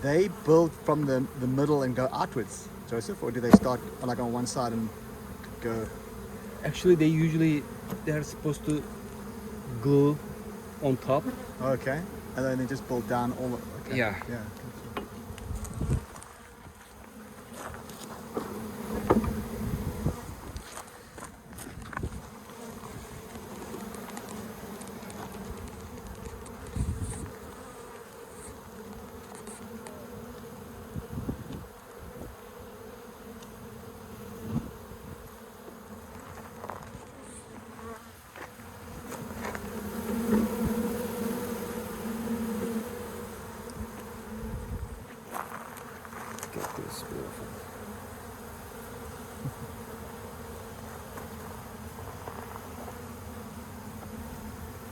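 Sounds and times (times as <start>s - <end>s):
honeybees buzzing: 0.0s - 54.9s.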